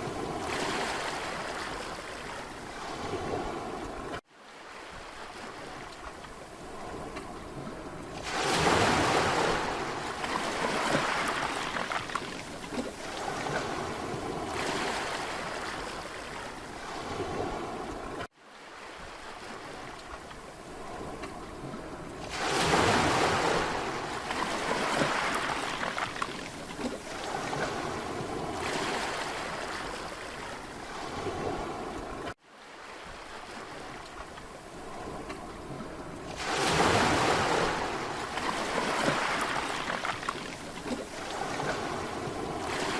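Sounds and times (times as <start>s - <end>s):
sea waves breaking on a beach: 0.0s - 42.9s.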